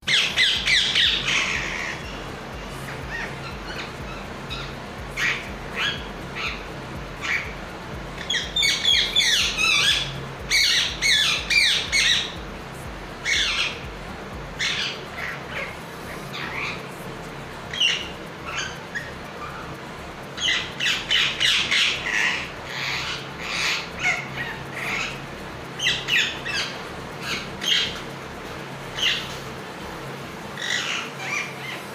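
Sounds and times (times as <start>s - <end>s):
parrot squawking and chattering: 0.0s - 7.5s, 8.2s - 12.4s, 13.2s - 13.9s, 14.6s - 16.8s, 17.7s - 28.1s, 28.9s - 29.4s, 30.6s - 31.9s.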